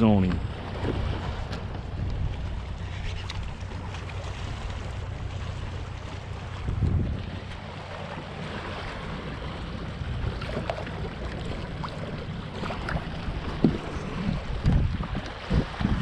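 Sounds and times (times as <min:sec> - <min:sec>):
water sloshing around kayak: 0:00.0 - 0:16.0
wind buffeting microphone: 0:00.0 - 0:16.0.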